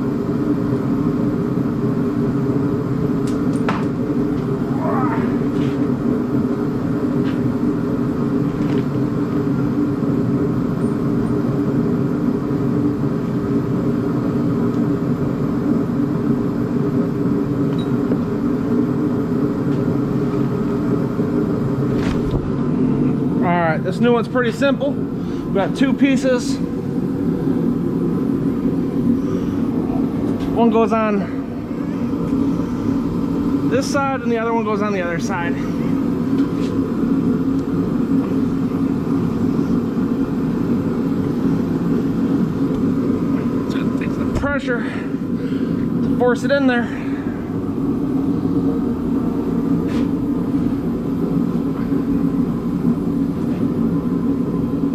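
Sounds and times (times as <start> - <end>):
low mechanical drone: 0.0 - 54.9.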